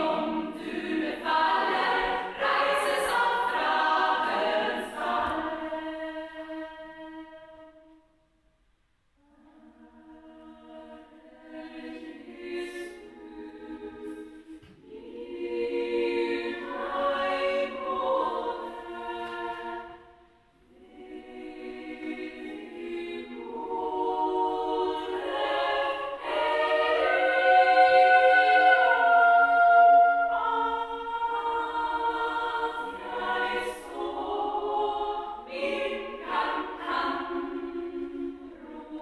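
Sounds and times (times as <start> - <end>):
women's choir singing: 0.0 - 8.0, 9.4 - 39.0.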